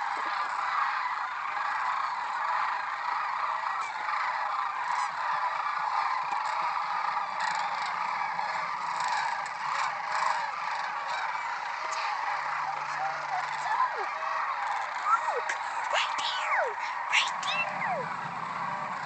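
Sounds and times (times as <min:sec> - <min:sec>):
cranes bugling in chorus: 0:00.0 - 0:19.0.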